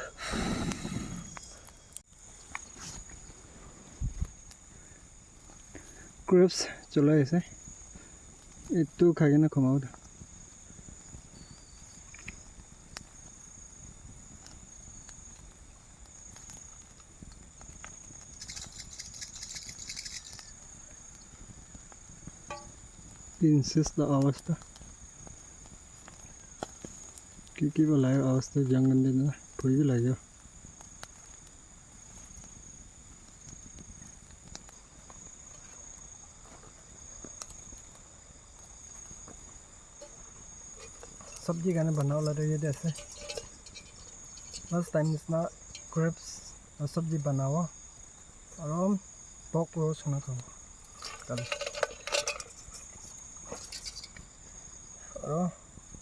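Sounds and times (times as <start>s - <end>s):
crickets trilling: 0.0s - 56.0s
insects high-pitched drone: 0.0s - 56.0s.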